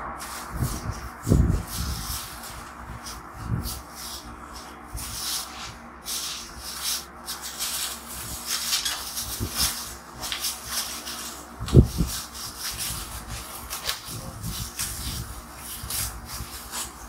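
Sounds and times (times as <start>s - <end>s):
hands rubbing through hair: 0.2s - 17.0s.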